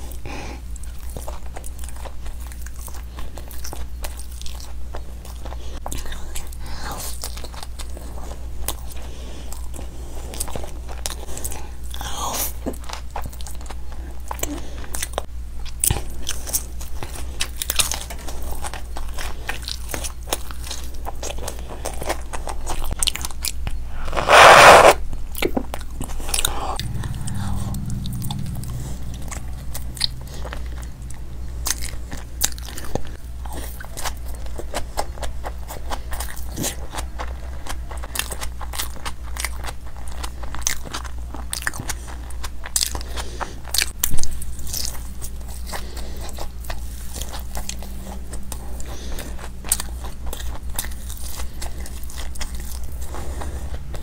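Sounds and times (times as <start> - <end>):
wet chewing and crunching: 0.0 - 54.0.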